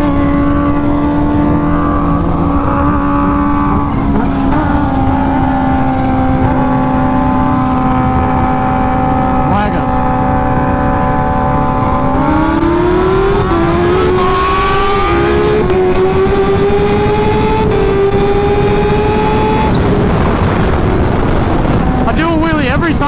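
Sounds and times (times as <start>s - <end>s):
motorcycle engine accelerating: 0.0s - 23.0s
wind rush: 0.0s - 23.0s.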